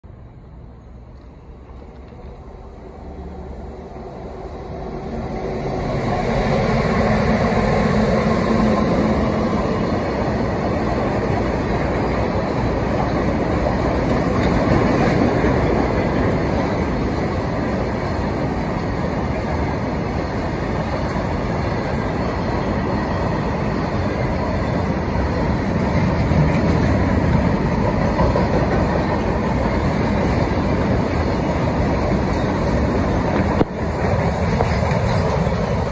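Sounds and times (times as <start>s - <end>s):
freight train passing: 0.0s - 35.9s.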